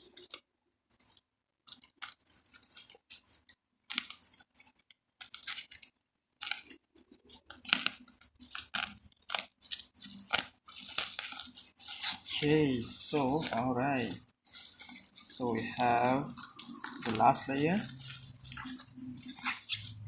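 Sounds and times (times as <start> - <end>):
plastic wrap crinkling and tearing: 1.0 - 20.0.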